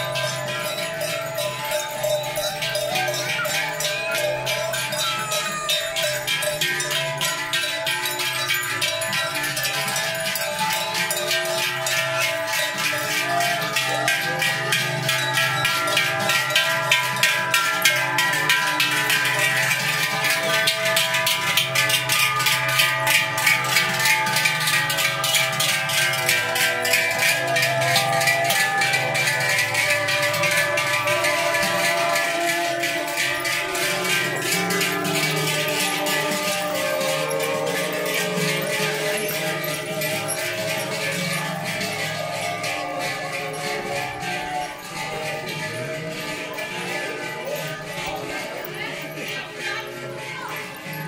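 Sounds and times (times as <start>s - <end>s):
cowbells clanging: 0.0s - 51.0s.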